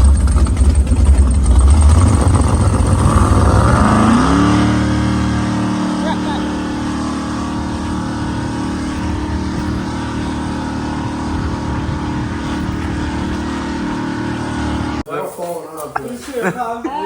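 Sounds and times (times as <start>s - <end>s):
motor engine running steadily: 0.0s - 15.1s.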